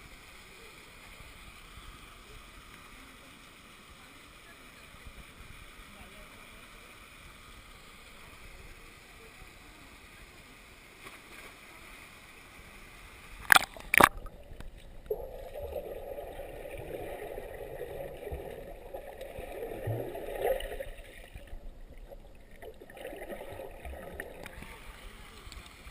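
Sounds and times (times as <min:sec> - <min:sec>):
stream water gurgling: 0:00.0 - 0:25.9.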